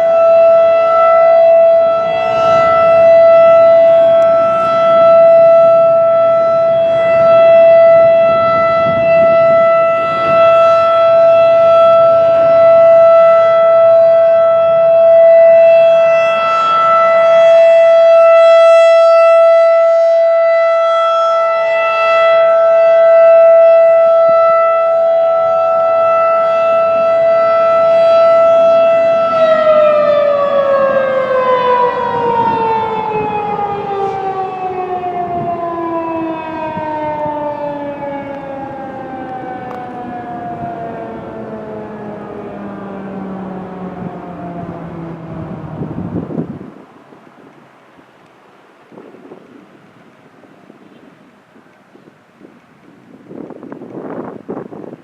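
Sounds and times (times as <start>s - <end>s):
steady high siren tone: 0.0s - 55.0s.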